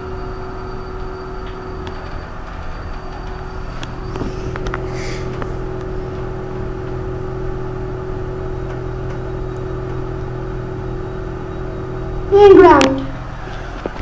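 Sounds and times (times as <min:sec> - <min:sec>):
lift hum: 0:00.0 - 0:14.0.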